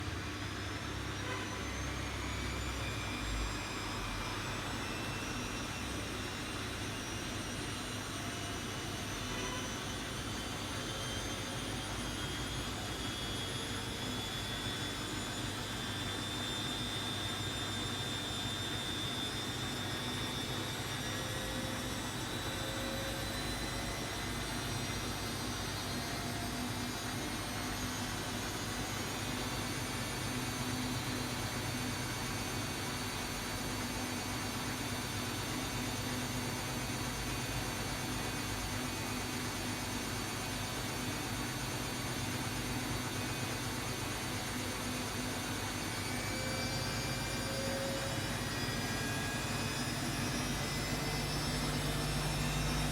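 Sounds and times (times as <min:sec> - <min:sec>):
high motor whine: 0:00.1 - 0:52.9.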